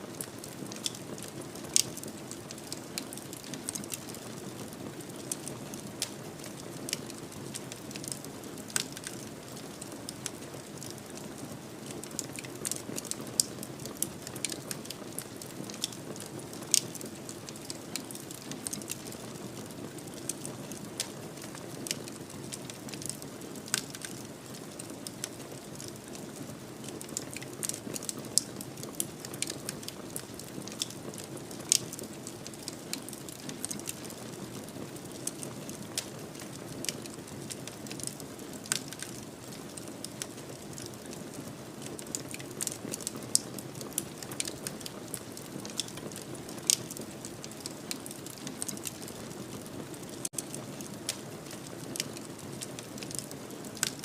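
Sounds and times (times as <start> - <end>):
fire crackling and popping: 0.1 - 54.0
low rumble of fire flames: 0.1 - 54.0.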